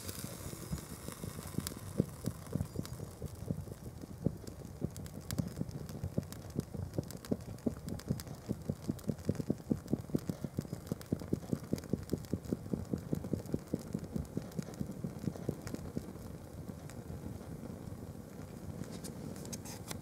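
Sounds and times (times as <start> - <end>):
fire burning low rumble: 0.0 - 20.0
fire crackling and popping: 0.0 - 20.0.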